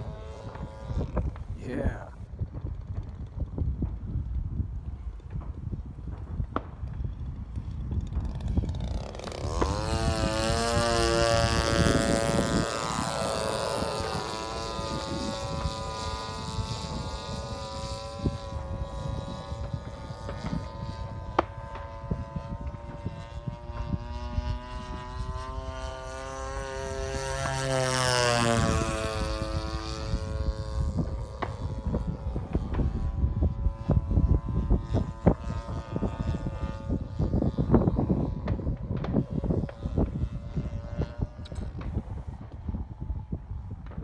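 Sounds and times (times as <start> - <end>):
model airplane engine droning: 0.0 - 44.0.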